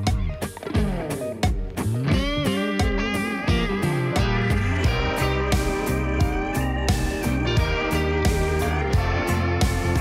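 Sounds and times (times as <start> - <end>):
electric guitar bending notes: 0.0 - 10.0
steady drum beat: 0.0 - 10.0.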